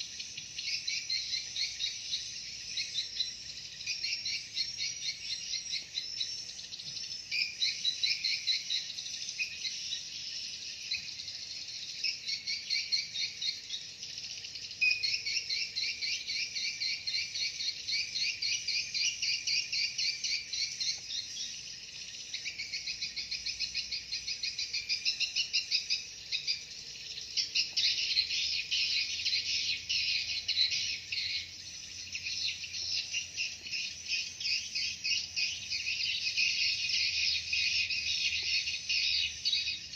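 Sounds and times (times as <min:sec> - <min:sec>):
rapid high-pitched bird chirps: 0:00.0 - 0:39.9.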